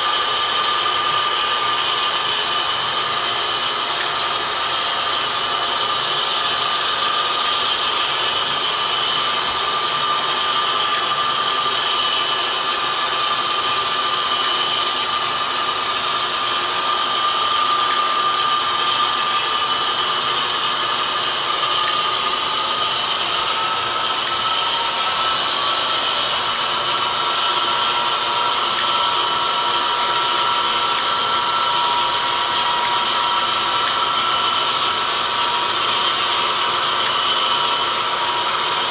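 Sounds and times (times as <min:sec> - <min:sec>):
model train wheels rolling on rail: 0:00.0 - 0:38.9
thin whine: 0:00.0 - 0:38.9.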